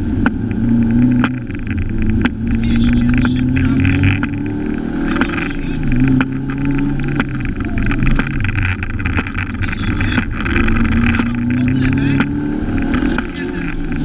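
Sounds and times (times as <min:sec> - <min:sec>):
car engine revving: 0:00.0 - 0:14.0
road noise: 0:00.0 - 0:14.0.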